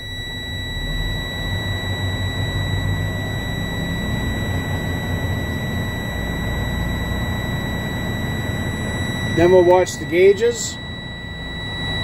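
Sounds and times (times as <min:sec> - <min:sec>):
warning buzzer tone: 0:00.0 - 0:12.0
diesel engine revving: 0:00.7 - 0:10.8.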